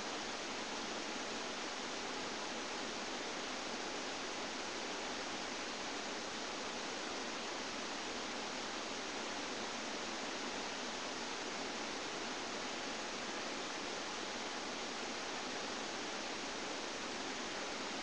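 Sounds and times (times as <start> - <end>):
microphone hiss: 0.0 - 18.0.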